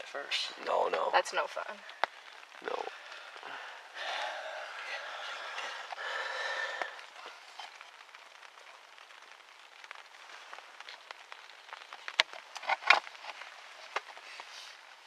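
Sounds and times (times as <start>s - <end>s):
faint crackling and rustling: 0.0s - 15.0s.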